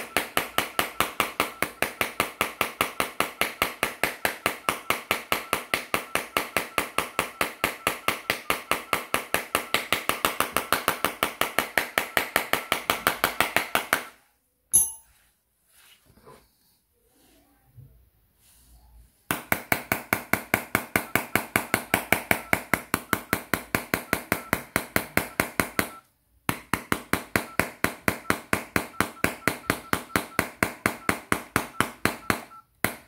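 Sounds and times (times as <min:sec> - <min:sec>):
rapid knocking of hard object: 0:00.0 - 0:14.1, 0:19.3 - 0:33.0.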